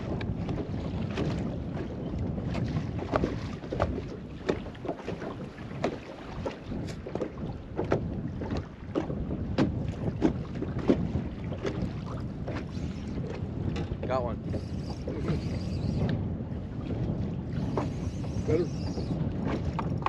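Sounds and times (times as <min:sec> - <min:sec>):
waves slapping boat hull: 0:00.0 - 0:20.0
wind buffeting microphone: 0:00.0 - 0:20.0.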